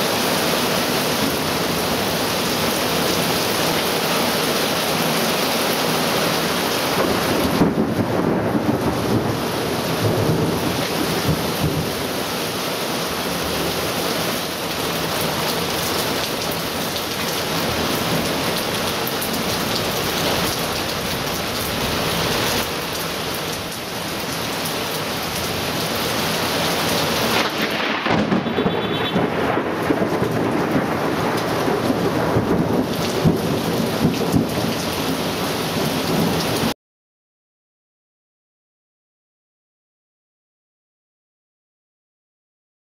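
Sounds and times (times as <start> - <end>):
torrential rain pouring: 0.0 - 36.8.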